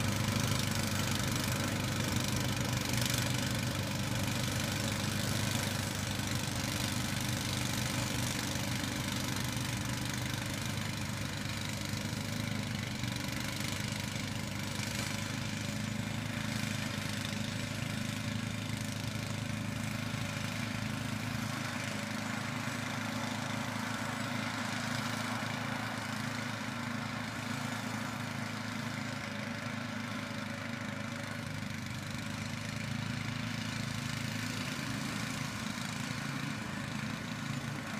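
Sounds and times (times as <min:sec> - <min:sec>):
snowblower throwing snow: 0:00.0 - 0:37.9
tractor engine running: 0:00.0 - 0:37.9.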